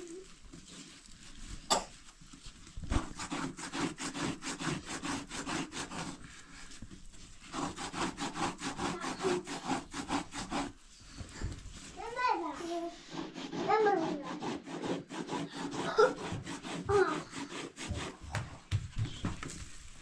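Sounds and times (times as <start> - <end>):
cloth rasping strokes: 0.0 - 18.7.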